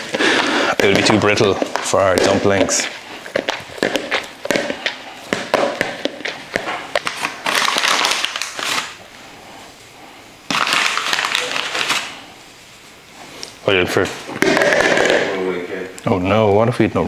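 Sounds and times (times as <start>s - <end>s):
hands kneading dough: 0.0s - 15.2s.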